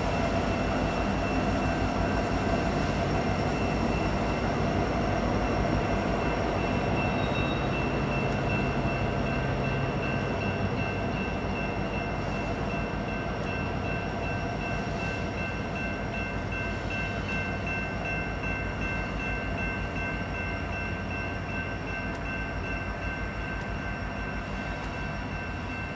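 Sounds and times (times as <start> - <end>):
diesel locomotive engine rumble: 0.0 - 25.9.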